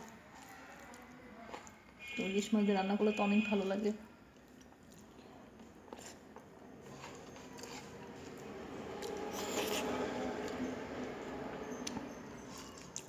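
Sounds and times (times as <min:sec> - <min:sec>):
chewing food: 0:00.0 - 0:02.0, 0:04.3 - 0:13.0.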